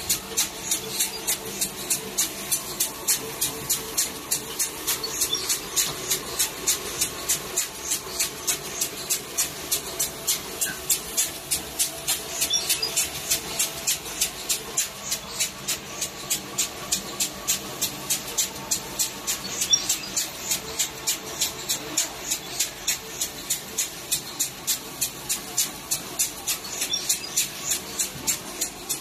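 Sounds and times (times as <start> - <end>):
machine clicking steadily: 0.0 - 29.0
mechanical hiss and hum: 0.0 - 29.0.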